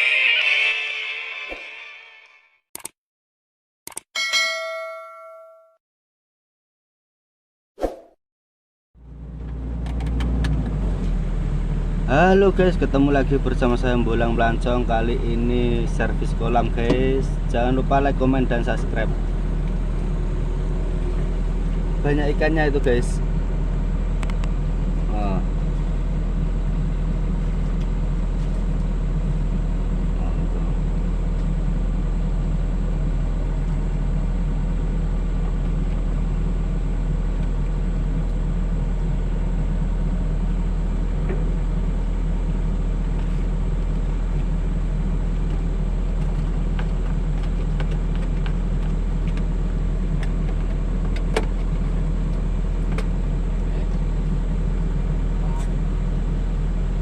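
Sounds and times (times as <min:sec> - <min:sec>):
diesel engine running: 0:09.0 - 0:57.0.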